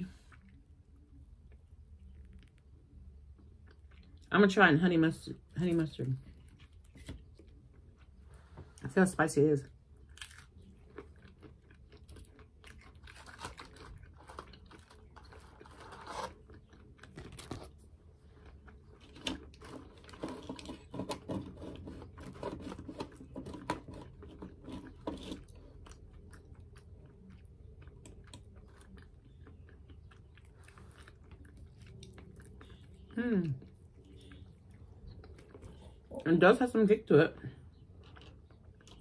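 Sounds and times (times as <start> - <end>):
person chewing crunchy food: 0.0 - 4.3, 6.1 - 8.4, 9.8 - 36.3, 37.6 - 39.0.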